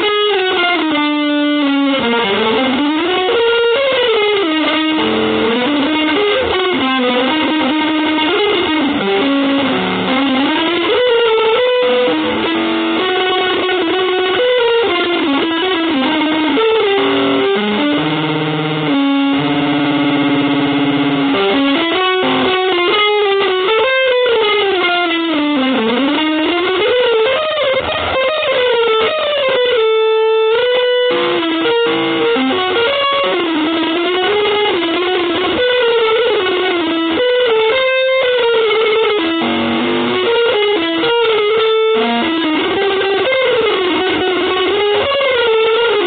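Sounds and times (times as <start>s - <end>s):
electric guitar with effects: 0.0s - 46.0s.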